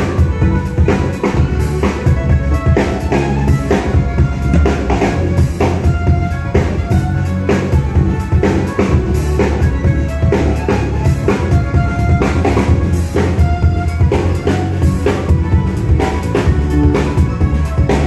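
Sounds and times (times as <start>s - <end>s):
drum kit beat: 0.0s - 18.0s
fiddle and mandolin tune: 0.0s - 18.0s.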